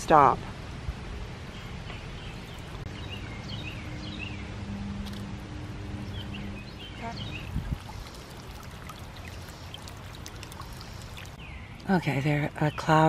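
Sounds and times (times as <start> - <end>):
outdoor background noise: 0.0 - 13.0
small birds chirping: 1.4 - 5.3, 5.9 - 13.0.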